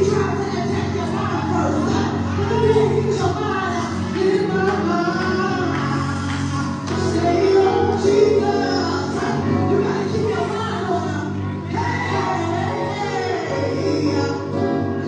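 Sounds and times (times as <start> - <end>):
gospel singing voices: 0.0 - 15.0.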